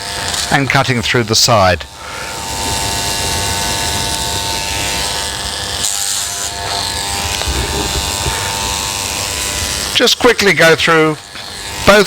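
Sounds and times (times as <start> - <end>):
electric hair clippers running: 0.0 - 12.0.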